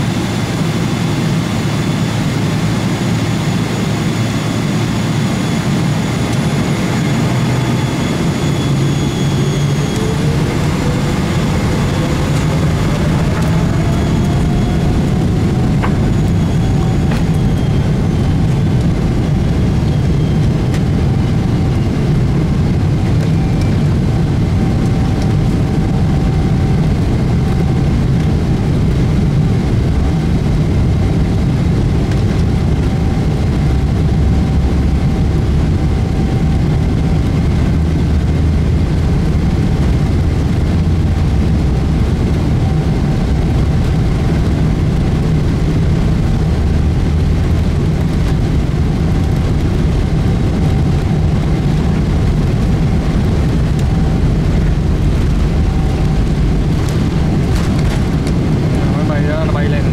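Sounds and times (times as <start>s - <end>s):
jet engine rumble in cabin: 0.0s - 59.9s.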